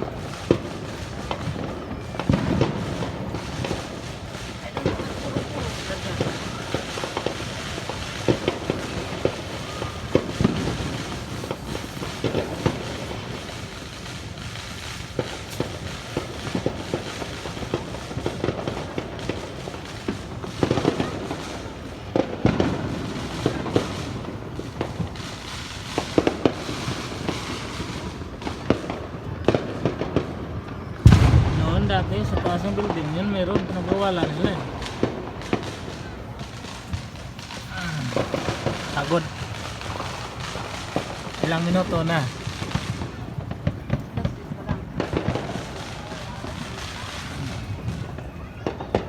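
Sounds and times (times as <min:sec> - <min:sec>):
fireworks pops and booms: 0:00.0 - 0:49.0.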